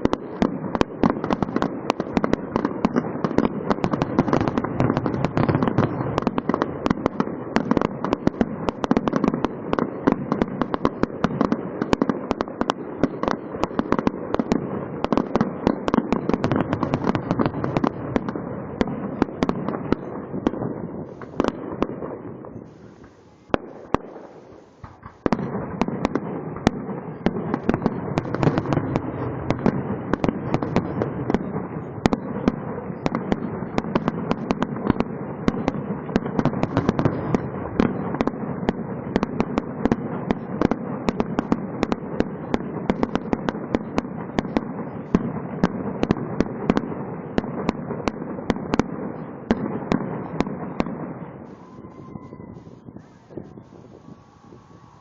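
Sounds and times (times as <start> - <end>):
fireworks popping and crackling: 0.0 - 55.0.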